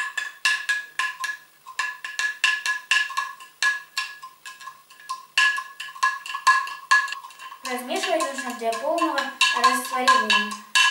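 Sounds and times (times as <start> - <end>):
spoon clinking in glass jar: 0.0 - 10.9.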